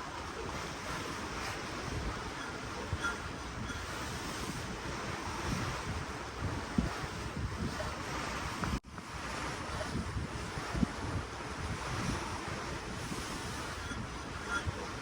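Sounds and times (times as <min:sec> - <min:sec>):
ocean waves washing against ship: 0:00.0 - 0:15.0
wind buffeting microphone: 0:00.0 - 0:15.0.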